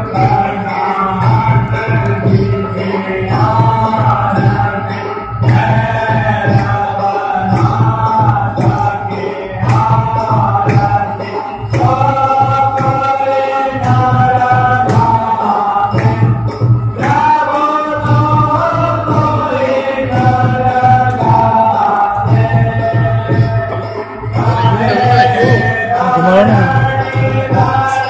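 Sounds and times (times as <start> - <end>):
group singing devotional chant: 0.0 - 28.0
sharp percussive strikes: 0.0 - 28.0.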